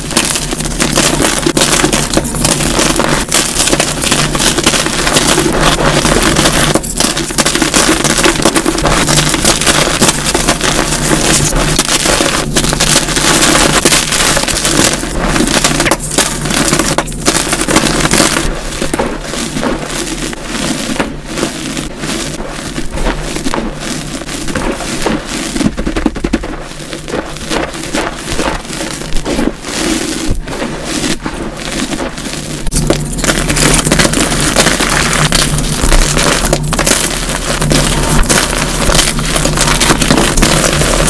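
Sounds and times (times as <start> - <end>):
chalk crunching by hand: 0.0 - 41.0.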